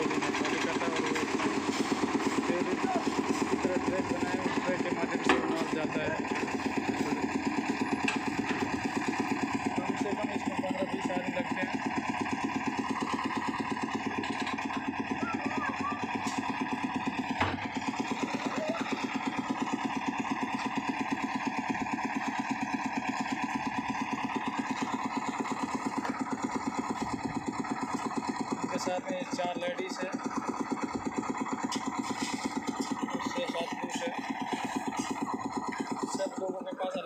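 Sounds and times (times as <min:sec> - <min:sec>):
concrete mixer engine running: 0:00.0 - 0:37.0.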